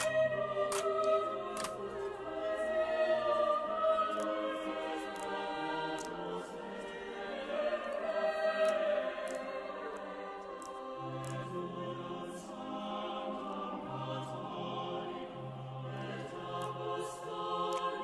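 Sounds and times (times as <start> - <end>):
choral music: 0.0 - 18.0.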